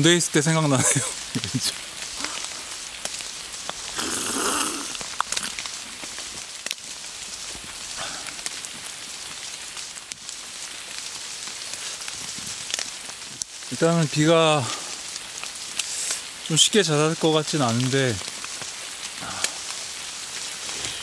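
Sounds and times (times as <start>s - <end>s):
heavy rain falling: 0.0s - 21.0s
raindrop ticks near microphone: 0.0s - 21.0s.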